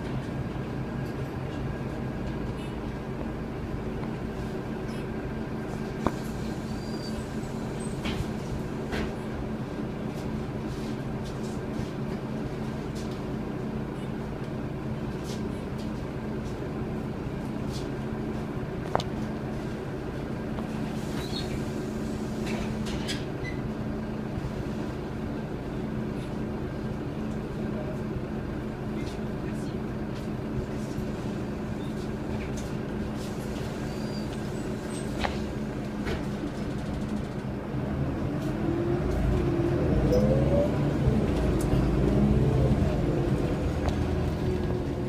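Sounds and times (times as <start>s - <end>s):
bus engine idling: 0.0s - 45.0s.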